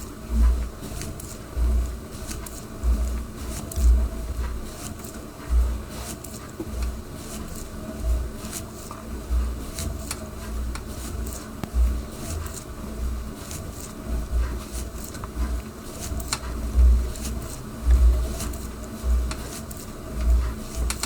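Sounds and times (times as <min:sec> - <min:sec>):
faint mechanical hum: 0:00.0 - 0:21.0.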